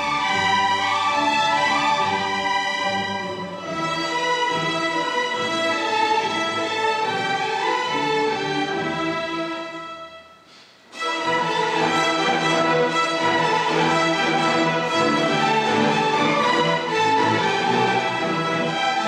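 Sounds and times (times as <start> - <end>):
string orchestra playing: 0.0 - 19.0.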